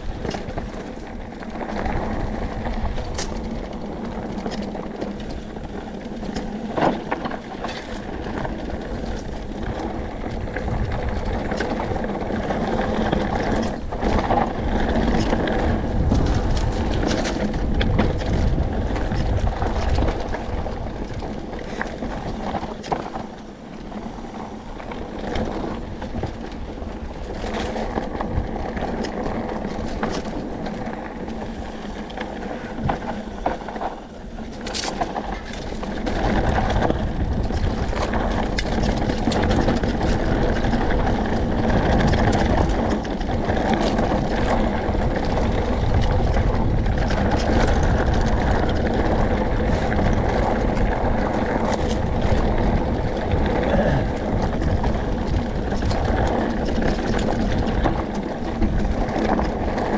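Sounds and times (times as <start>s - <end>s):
bike rattling: 0.0s - 59.9s
tyres crunching over dirt and stones: 0.0s - 59.9s
wind rushing on microphone: 0.0s - 59.9s.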